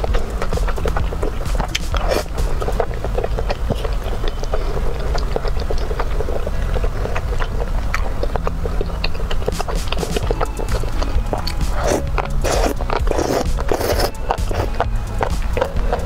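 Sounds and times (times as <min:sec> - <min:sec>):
chopsticks squelching in sauce: 0:00.0 - 0:16.0
steady low rumble: 0:00.0 - 0:16.0.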